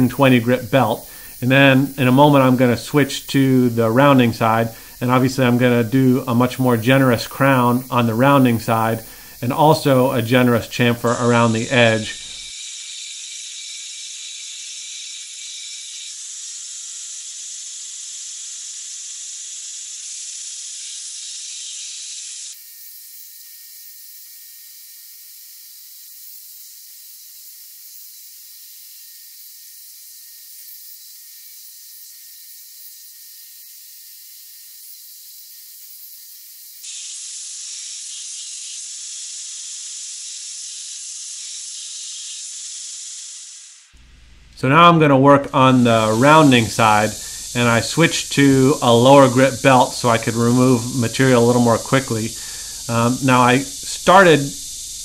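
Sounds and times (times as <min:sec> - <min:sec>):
belt grinder grinding steel: 0:00.0 - 0:24.8, 0:25.5 - 0:43.9, 0:45.6 - 0:55.0.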